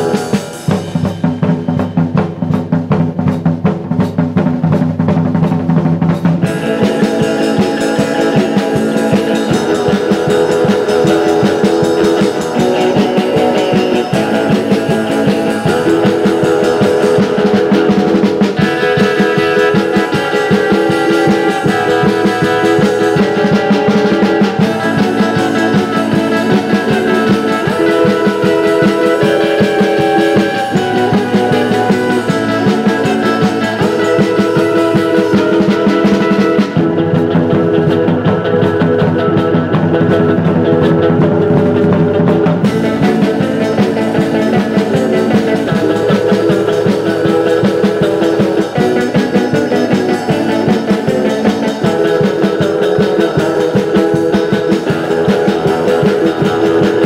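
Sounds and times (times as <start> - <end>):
drum kit steady beat: 0.0 - 57.0
electric guitar: 0.0 - 57.0.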